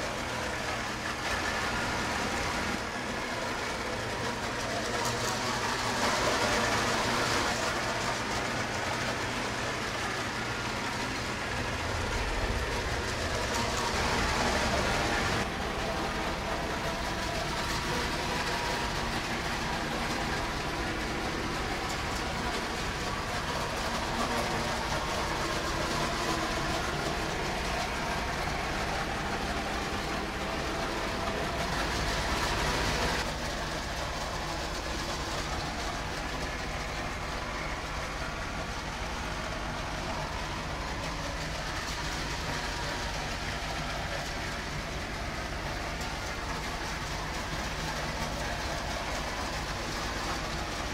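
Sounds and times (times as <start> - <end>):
wheels rolling on rails: 0.0 - 50.9.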